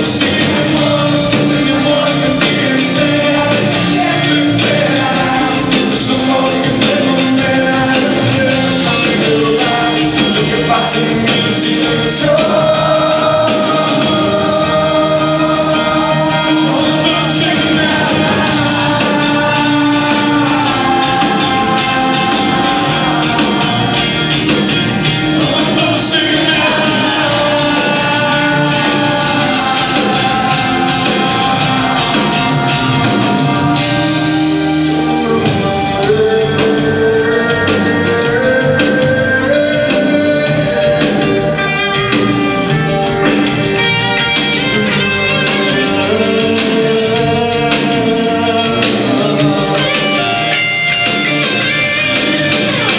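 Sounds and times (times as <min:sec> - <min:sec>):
full band playing live: 0:00.0 - 0:52.9
person singing: 0:00.0 - 0:52.9.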